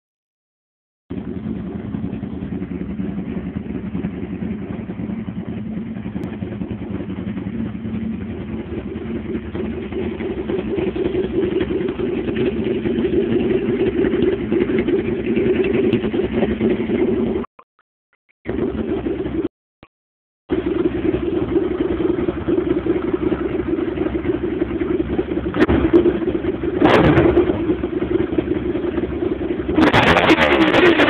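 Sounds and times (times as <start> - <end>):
motorcycle engine running: 1.1 - 17.5, 18.4 - 19.5, 20.5 - 31.0.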